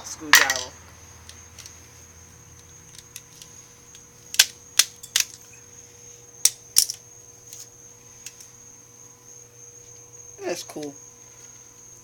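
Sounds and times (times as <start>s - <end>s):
faint high whine and hum: 0.0s - 12.0s.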